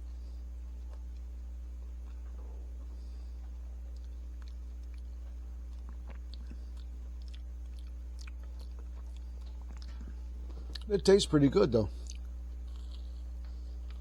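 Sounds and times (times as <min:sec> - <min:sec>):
chewing ice cream bar: 0:00.0 - 0:14.0
steady low hum: 0:00.0 - 0:14.0.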